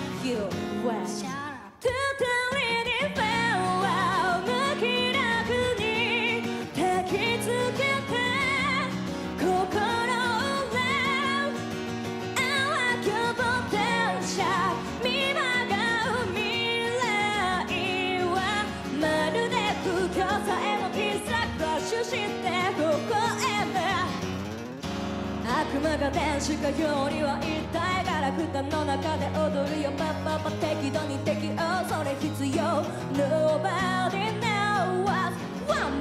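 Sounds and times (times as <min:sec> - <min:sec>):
woman singing with vibrato: 0:00.0 - 0:24.2, 0:25.4 - 0:36.0
acoustic guitar: 0:00.0 - 0:36.0.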